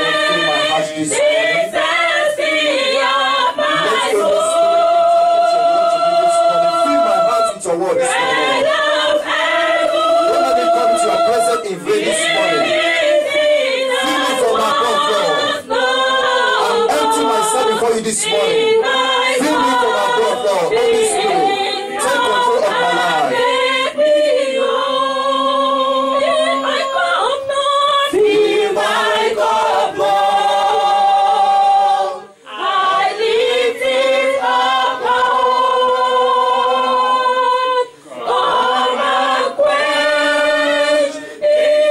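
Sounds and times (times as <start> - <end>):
choir voices singing: 0.0 - 41.9.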